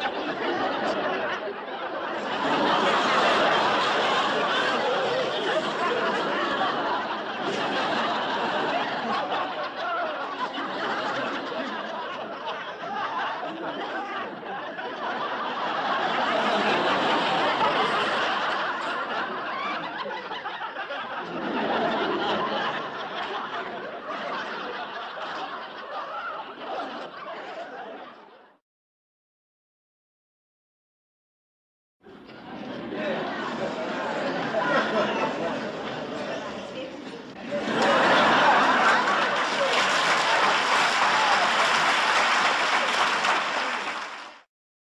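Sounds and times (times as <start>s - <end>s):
crowd laughing: 0.0s - 28.6s, 32.1s - 44.5s.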